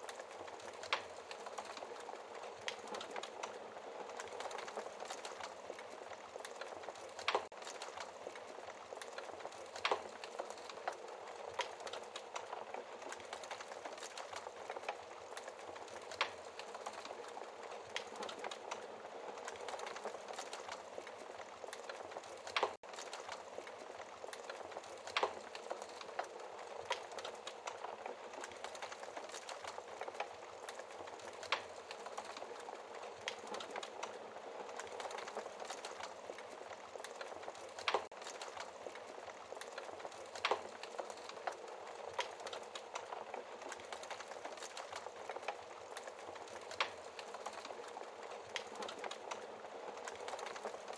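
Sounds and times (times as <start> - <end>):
wood fire crackling and hissing: 0.0 - 50.9.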